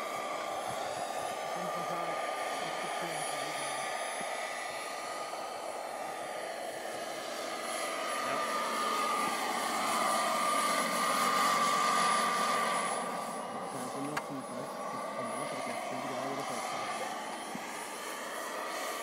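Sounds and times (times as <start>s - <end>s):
model helicopter flying past: 0.0s - 19.0s.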